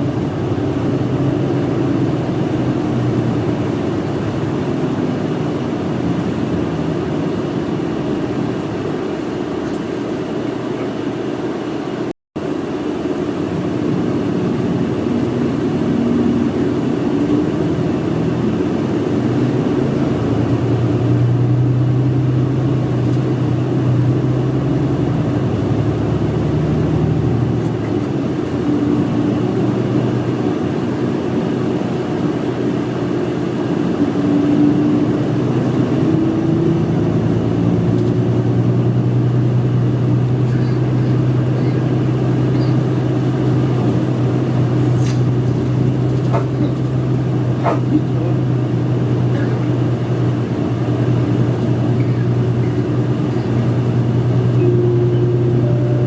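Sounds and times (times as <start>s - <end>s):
bus engine: 0.0s - 56.0s
road noise: 0.0s - 56.0s.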